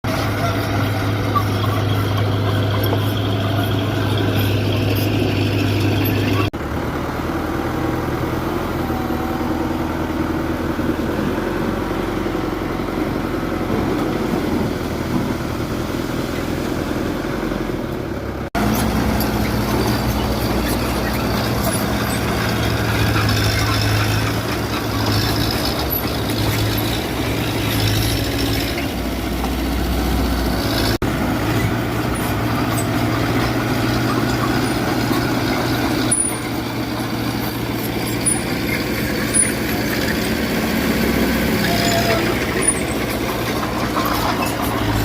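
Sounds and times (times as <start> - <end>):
heavy machinery diesel engine: 0.0 - 45.0.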